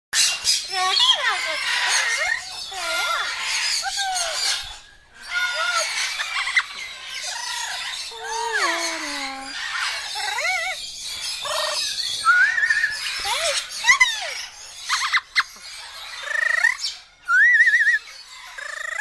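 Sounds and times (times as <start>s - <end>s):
parrot squawking and whistling: 1.0s - 19.0s.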